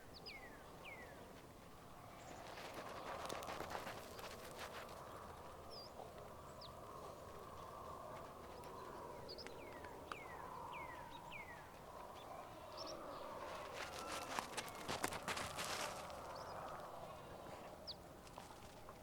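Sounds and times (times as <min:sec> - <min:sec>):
bird calls: 0:02.2 - 0:18.0.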